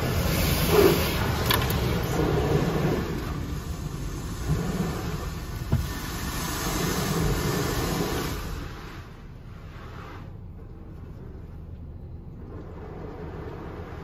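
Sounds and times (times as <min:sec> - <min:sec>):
water jets spraying on car: 0:00.0 - 0:14.0.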